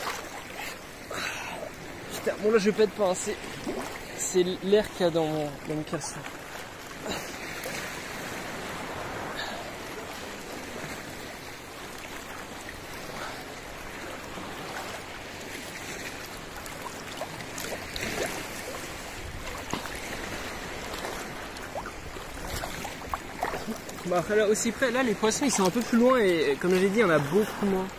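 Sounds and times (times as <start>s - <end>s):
seawater sloshing and lapping: 0.0s - 27.9s.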